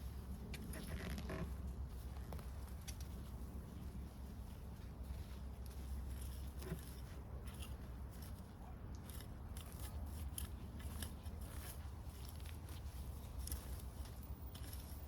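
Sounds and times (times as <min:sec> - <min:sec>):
steady low rumble: 0:00.0 - 0:15.0
vines and dry soil crackling: 0:00.0 - 0:15.0.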